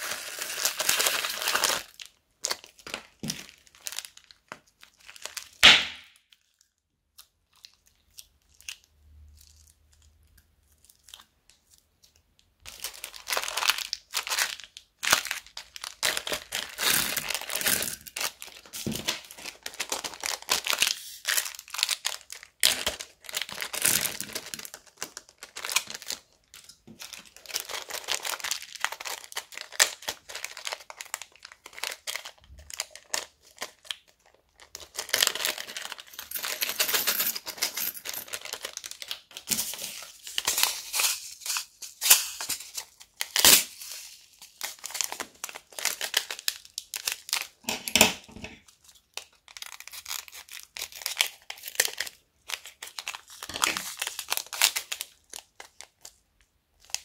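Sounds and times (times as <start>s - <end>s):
plastic bags crinkling: 0.0s - 5.6s, 12.6s - 56.2s.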